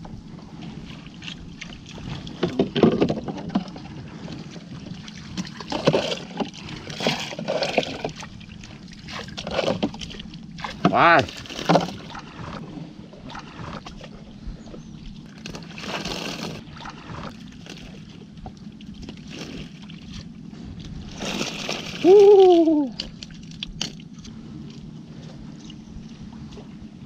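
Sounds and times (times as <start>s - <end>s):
water sloshing and splashing: 0.0s - 27.0s.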